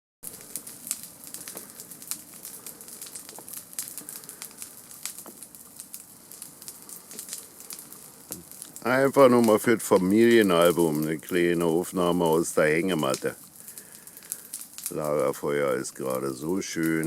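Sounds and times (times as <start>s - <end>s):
campfire crackling and popping: 0.2s - 17.0s
soft hiss of fire: 0.2s - 17.0s.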